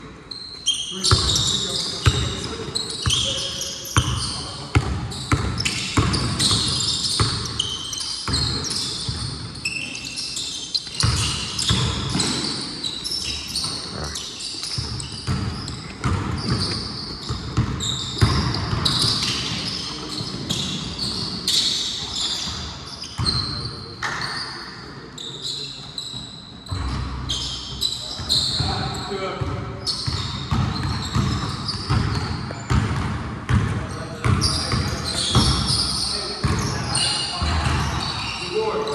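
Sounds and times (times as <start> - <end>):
sneakers squeaking on floor: 0.0 - 38.9
basketball bouncing on court: 1.0 - 9.6, 10.8 - 24.3, 26.7 - 38.3.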